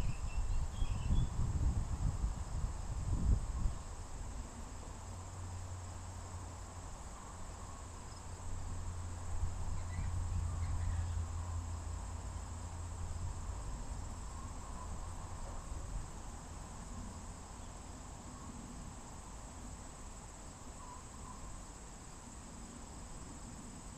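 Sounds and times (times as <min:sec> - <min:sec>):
insects chirring: 0:00.0 - 0:23.9.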